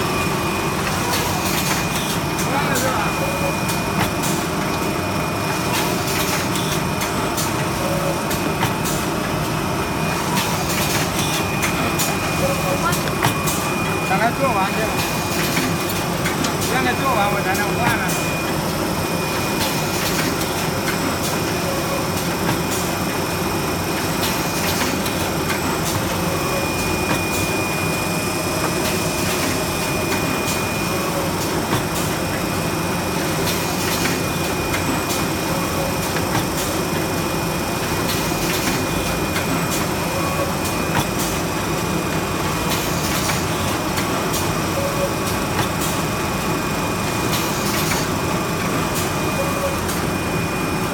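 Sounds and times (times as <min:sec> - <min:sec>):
factory machinery noise: 0:00.0 - 0:50.9.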